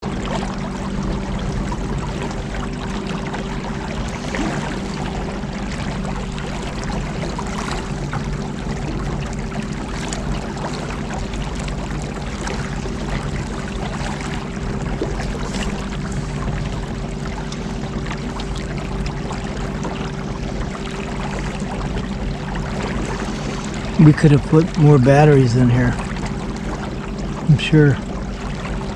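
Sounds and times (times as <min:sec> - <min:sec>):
water splashing along hull: 0:00.0 - 0:28.9.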